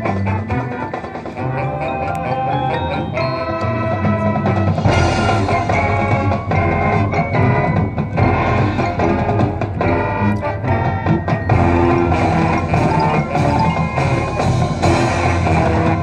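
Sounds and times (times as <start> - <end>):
marching band playing: 0.0 - 16.0
percussion strikes: 0.0 - 16.0.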